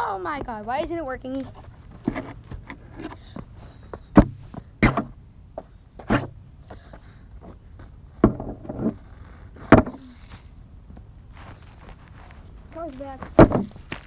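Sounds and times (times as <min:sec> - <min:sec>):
plastic toy clattering on pavement: 0:00.3 - 0:14.0.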